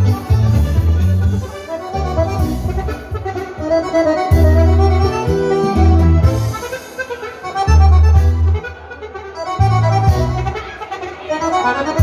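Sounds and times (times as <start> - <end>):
button accordion dance tune: 0.0 - 12.0.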